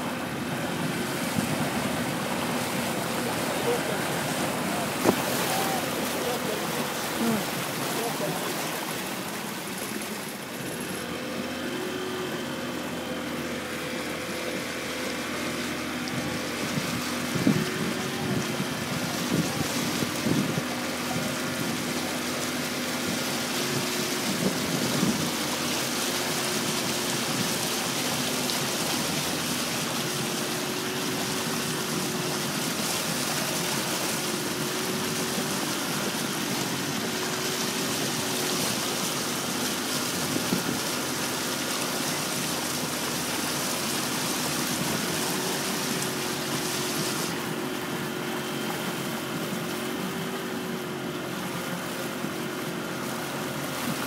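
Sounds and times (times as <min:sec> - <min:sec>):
river water splashing along hull: 0:00.0 - 0:54.0.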